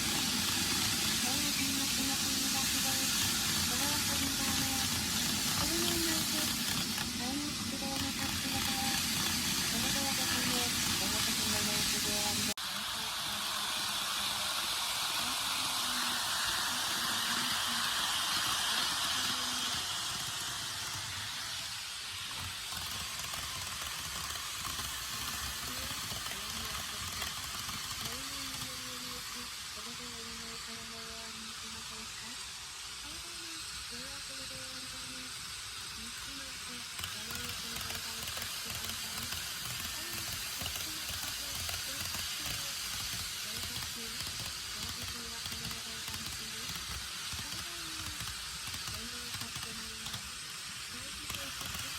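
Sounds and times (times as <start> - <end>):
constant hiss: 0.0 - 51.9
model train rumbling on track: 0.0 - 51.9.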